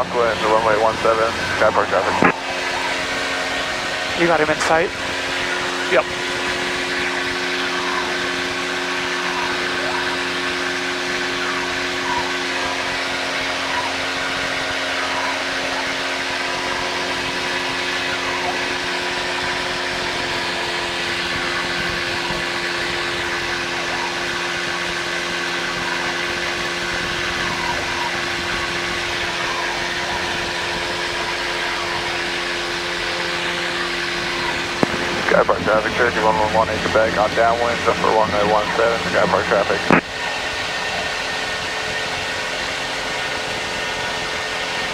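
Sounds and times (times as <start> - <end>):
airplane piston engine drone: 0.0 - 44.9.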